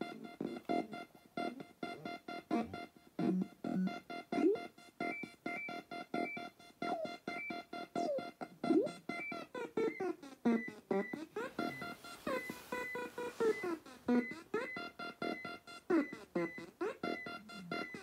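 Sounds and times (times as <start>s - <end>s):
rapid electronic bleeps: 0.0s - 18.0s.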